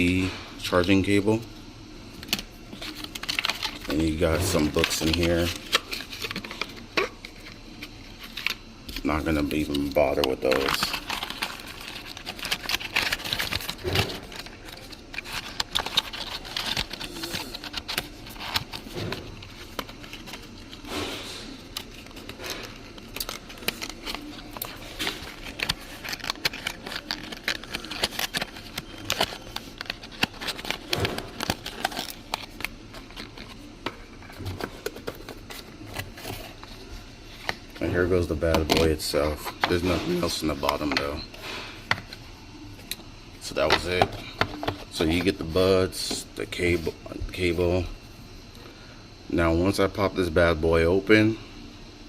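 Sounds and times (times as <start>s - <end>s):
packaging crinkling and rustling: 2.2s - 46.3s.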